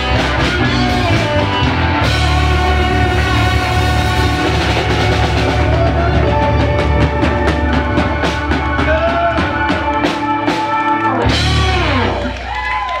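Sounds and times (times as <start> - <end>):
bending guitar notes: 0.0 - 12.4
live rock band playing: 0.0 - 13.0.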